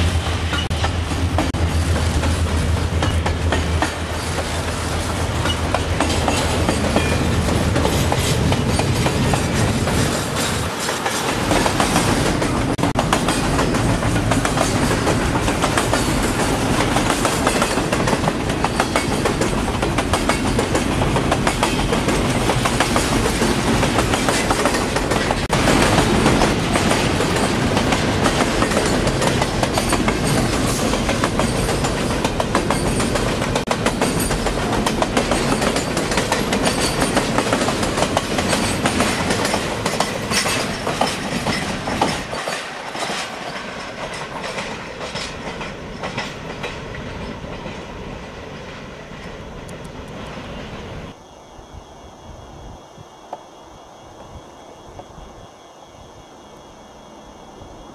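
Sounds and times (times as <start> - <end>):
wheels clacking on rails: 0.0 - 50.7
freight train rumble: 0.0 - 51.2.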